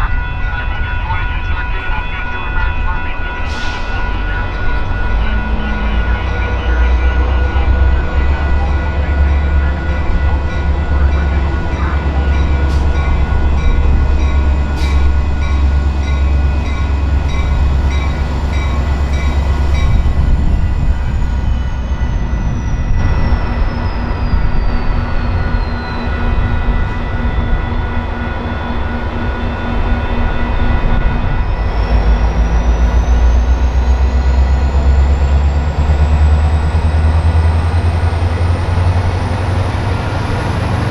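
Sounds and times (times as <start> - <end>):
diesel locomotive engine rumbling: 0.0 - 40.9
high whine sliding in pitch: 3.9 - 40.9.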